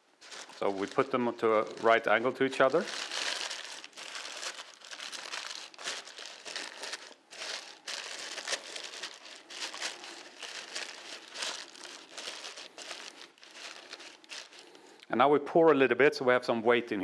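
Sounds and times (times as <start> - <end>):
baking paper crinkling: 0.0 - 14.9.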